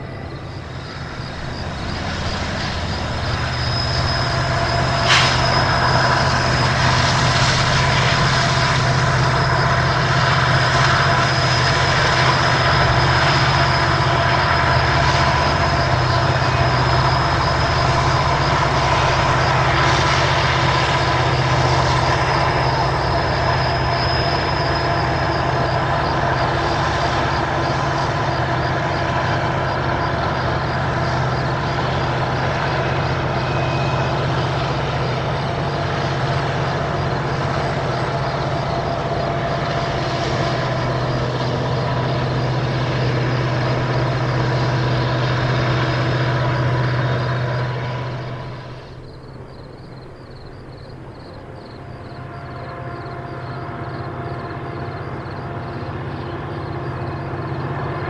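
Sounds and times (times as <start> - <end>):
diesel locomotive engine drone: 0.0 - 58.0
train wheels on rails: 0.0 - 58.0.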